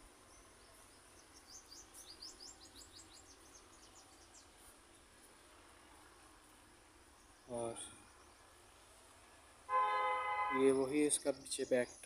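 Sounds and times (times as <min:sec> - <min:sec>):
faint bird chirping: 0:00.0 - 0:09.5, 0:10.6 - 0:12.0.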